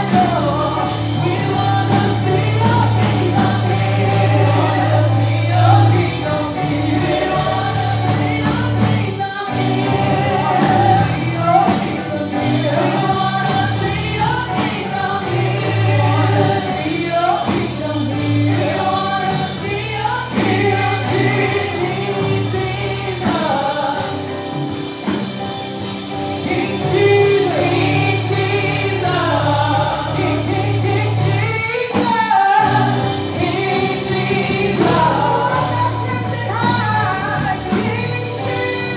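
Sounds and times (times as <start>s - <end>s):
bass and drums: 0.0s - 38.9s
gospel choir singing: 0.0s - 38.9s.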